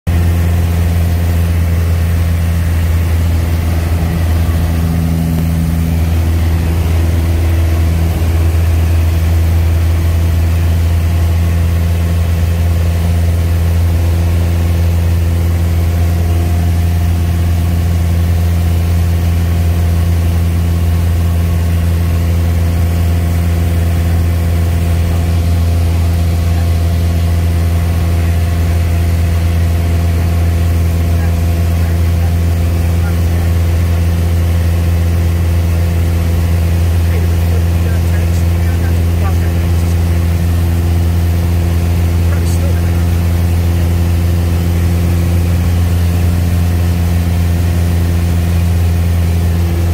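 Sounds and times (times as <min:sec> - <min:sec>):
airplane engine droning in cabin: 0:00.1 - 0:49.9.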